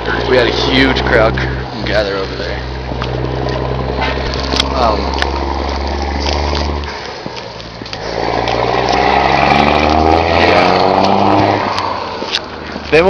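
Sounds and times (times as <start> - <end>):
low engine hum: 0.0 - 13.0
vehicle engine passing by: 0.0 - 13.0.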